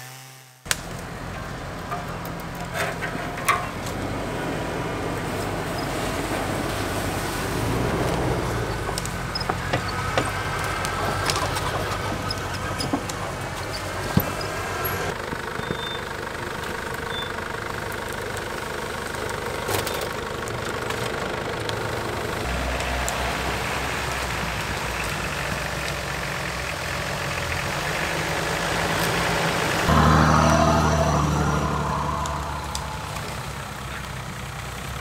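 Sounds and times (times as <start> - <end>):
off-road engines at low revs: 0.0 - 35.0
deep steady engine drone: 0.7 - 35.0.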